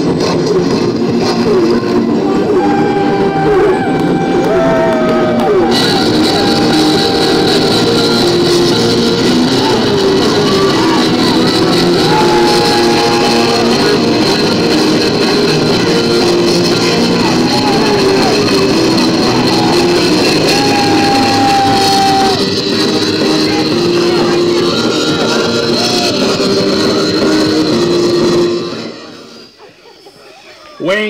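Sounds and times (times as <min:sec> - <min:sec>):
loud rock music: 0:00.0 - 0:29.4.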